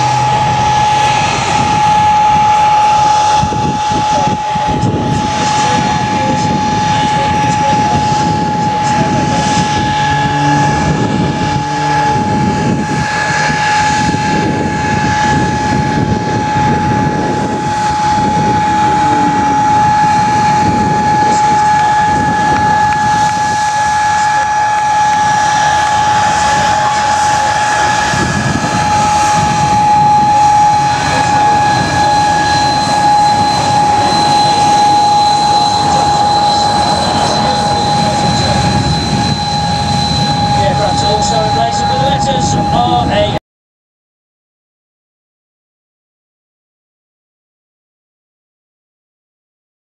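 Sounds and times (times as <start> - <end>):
aircraft engine whine and rumble: 0.0 - 43.4.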